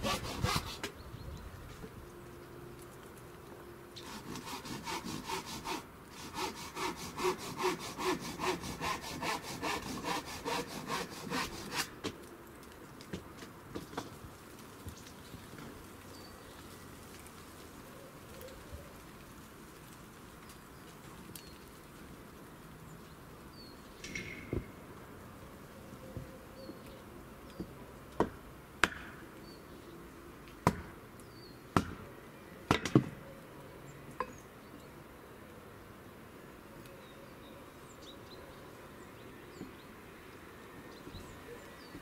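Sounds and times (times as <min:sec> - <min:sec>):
steady outdoor hush: 0:00.0 - 0:42.0.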